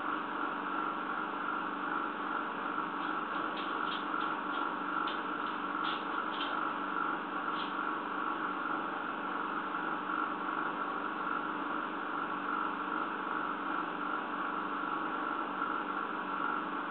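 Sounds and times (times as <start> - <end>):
steady hum and hiss: 0.0 - 16.9.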